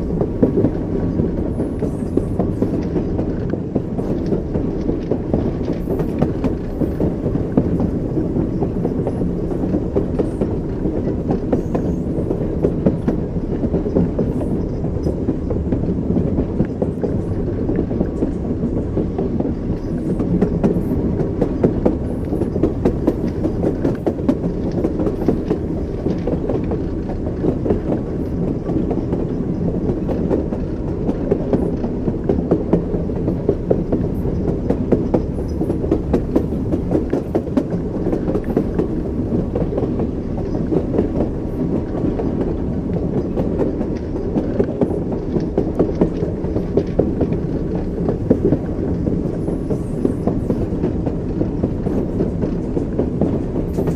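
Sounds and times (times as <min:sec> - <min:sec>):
clickety-clack over rail joints: 0:00.0 - 0:53.9
train wheels rumbling on rails: 0:00.0 - 0:53.9.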